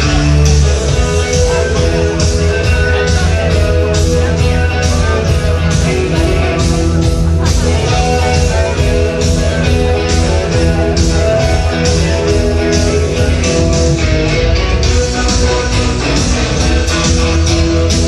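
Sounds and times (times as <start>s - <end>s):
rock and roll music: 0.0s - 18.0s.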